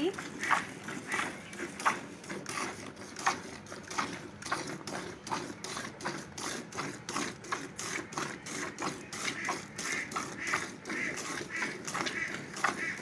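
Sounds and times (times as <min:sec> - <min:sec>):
milk squirting into a bucket: 0:00.0 - 0:13.0.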